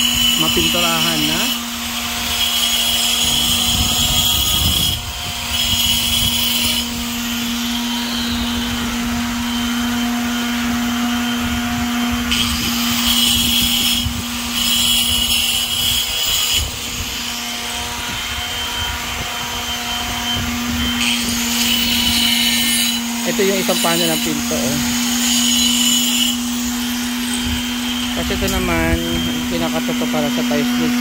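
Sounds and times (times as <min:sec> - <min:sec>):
electric grinder on concrete: 0:00.0 - 0:31.0.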